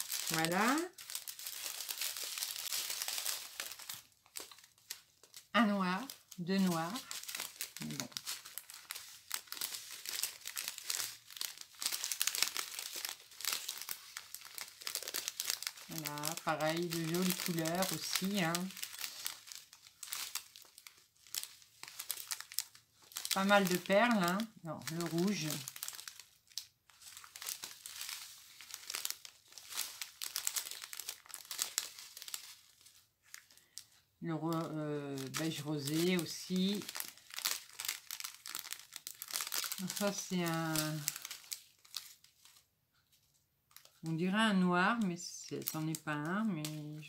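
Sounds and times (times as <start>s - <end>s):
plastic bags crinkling: 0.0s - 47.0s.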